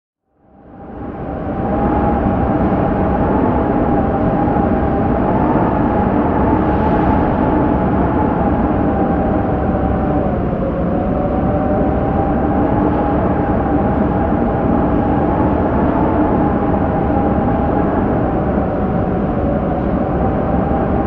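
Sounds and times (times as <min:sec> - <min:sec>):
strong wind rushing: 0:00.4 - 0:21.0
wavering wind whistle: 0:00.6 - 0:21.0.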